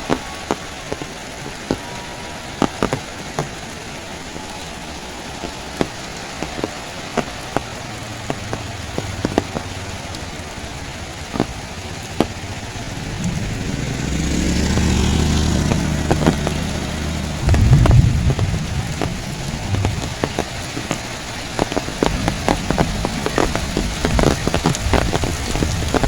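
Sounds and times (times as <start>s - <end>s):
close raindrops ticking: 0.0s - 26.0s
heavy rain: 0.0s - 26.0s
vehicle passing rumble: 0.0s - 26.0s.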